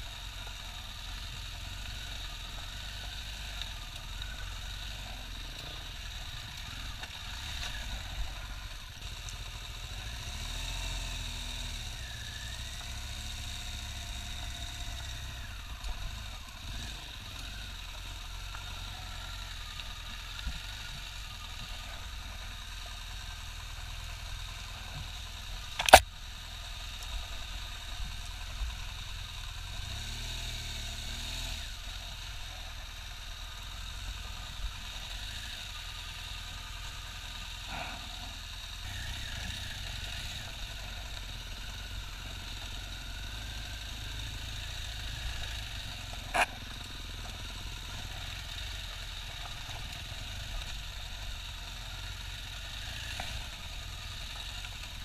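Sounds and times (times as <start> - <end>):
motorcycle engine at low revs: 0.0 - 55.0.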